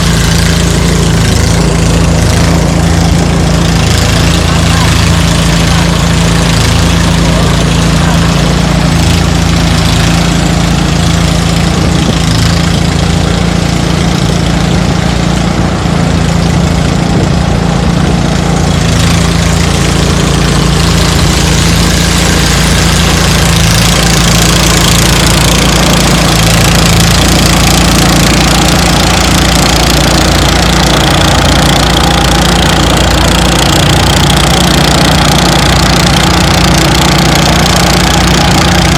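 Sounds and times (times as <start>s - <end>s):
threshing machine engine humming: 0.0s - 38.9s.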